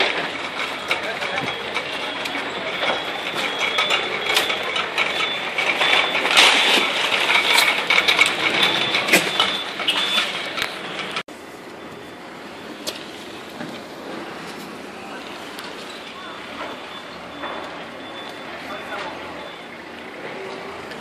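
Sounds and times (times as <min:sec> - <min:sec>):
clattering mechanical noise: 0:00.0 - 0:11.3, 0:12.8 - 0:21.0.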